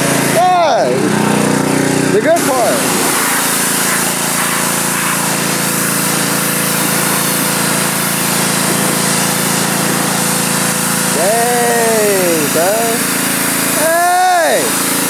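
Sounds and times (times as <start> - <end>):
power tool running: 0.0 - 15.0.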